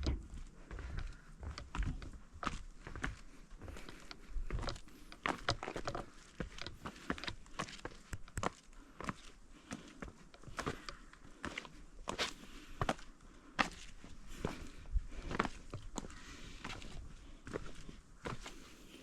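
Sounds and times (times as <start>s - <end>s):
footsteps on a trail: 0.0s - 19.0s.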